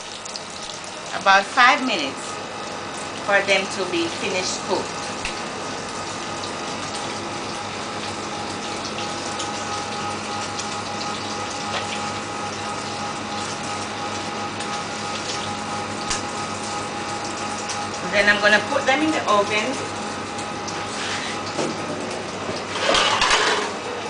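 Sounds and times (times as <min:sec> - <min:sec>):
food sizzling in hot oil: 0:00.0 - 0:24.0
steady hum: 0:00.0 - 0:24.0.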